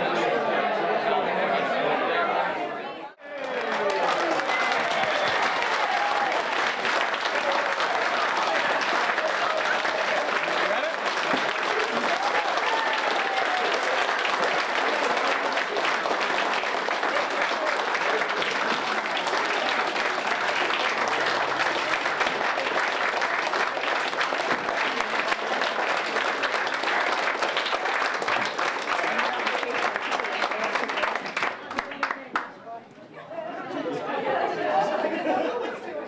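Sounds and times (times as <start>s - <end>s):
crowd applauding: 3.2s - 32.5s.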